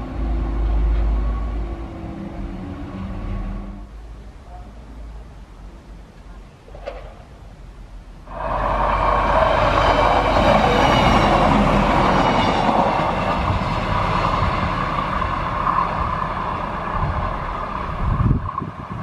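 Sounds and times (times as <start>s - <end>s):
diesel railcar passing: 0.0s - 19.0s.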